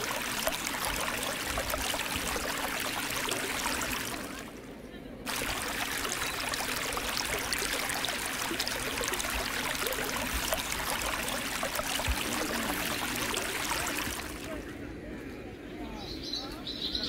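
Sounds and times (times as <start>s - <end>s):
stream water rushing and trickling: 0.0s - 14.7s.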